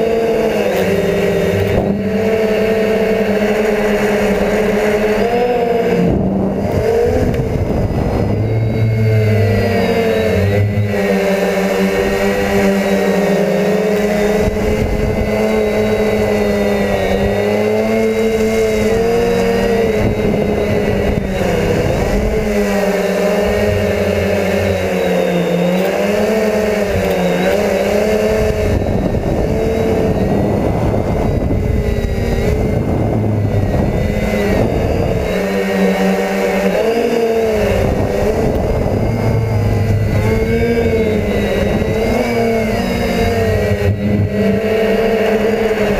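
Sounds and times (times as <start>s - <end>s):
drone motors whining: 0.0s - 45.9s.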